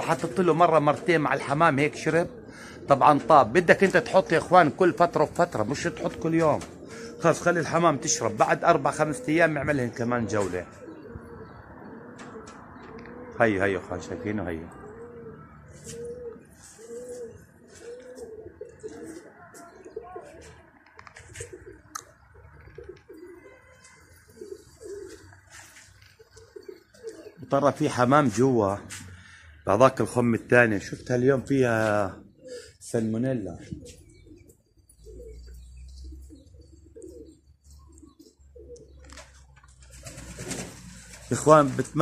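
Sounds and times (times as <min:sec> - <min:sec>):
pigeons cooing: 0:00.0 - 0:42.0.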